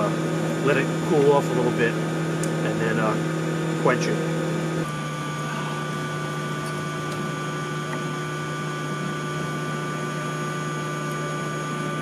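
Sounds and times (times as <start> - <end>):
air blower humming: 0.0 - 12.0.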